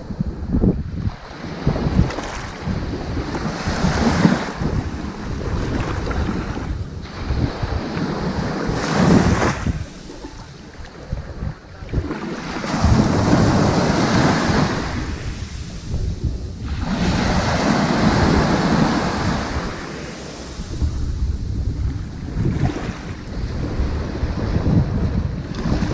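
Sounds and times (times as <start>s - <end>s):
ocean waves washing onto beach: 0.0s - 25.9s.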